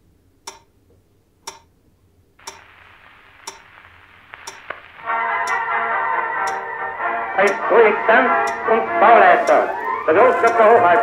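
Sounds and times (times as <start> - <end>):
soft steady hiss: 0.0 - 11.0
clock ticking: 0.3 - 1.8, 2.4 - 11.0.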